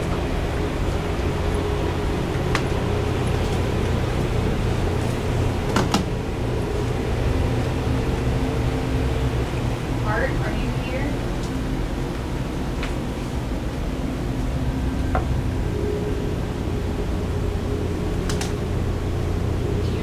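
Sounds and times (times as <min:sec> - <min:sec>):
low droning hum with hiss: 0:00.0 - 0:20.0.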